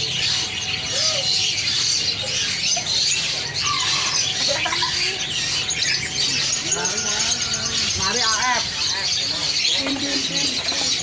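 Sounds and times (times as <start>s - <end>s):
caged songbirds chirping: 0.0s - 11.0s.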